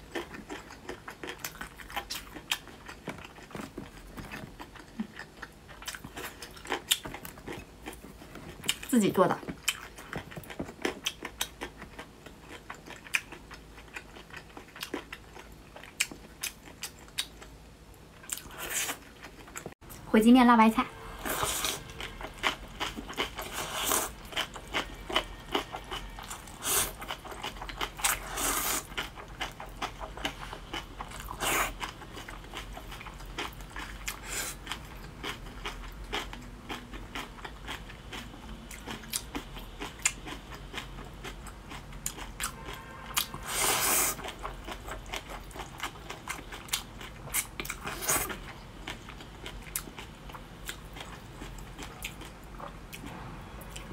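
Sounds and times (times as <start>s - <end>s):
wet chewing: 0.0s - 17.5s, 21.3s - 53.1s.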